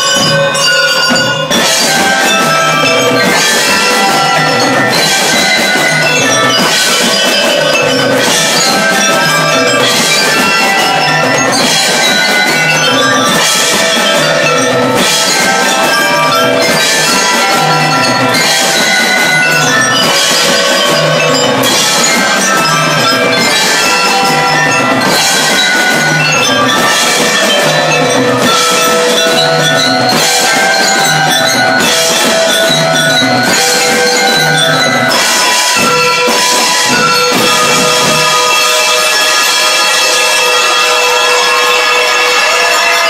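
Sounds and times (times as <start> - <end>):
marching drum beat: 0.0 - 40.2
bell lyre melody: 0.0 - 43.0.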